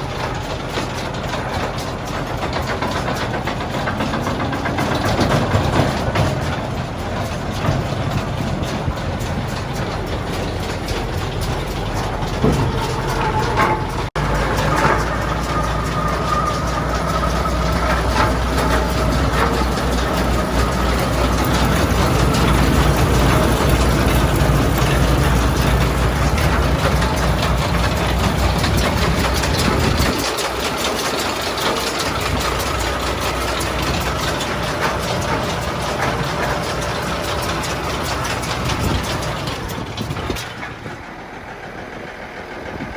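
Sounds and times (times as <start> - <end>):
engine running with hay baler: 0.0 - 42.9.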